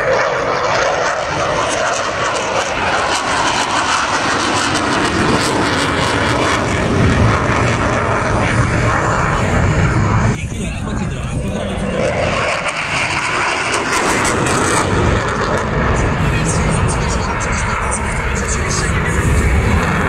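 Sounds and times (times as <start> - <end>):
jet fighter engine roar: 0.0 - 20.0.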